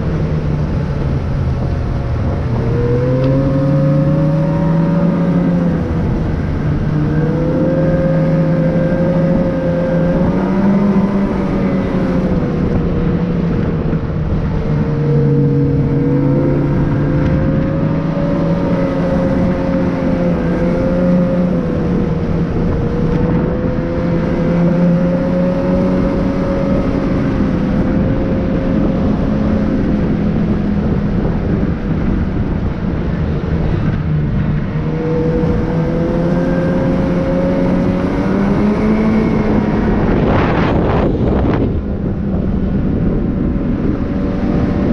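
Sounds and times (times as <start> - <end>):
road noise: 0.0 - 44.9
vehicle engine drone: 0.0 - 44.9.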